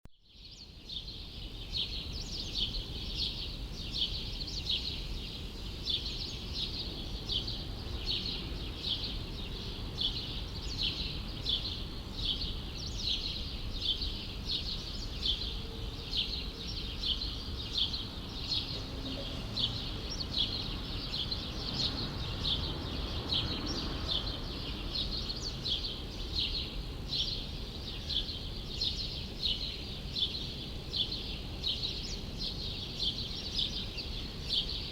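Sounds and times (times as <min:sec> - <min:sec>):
low rumble of city traffic: 0:00.3 - 0:34.9
bird chirping: 0:05.9 - 0:34.9.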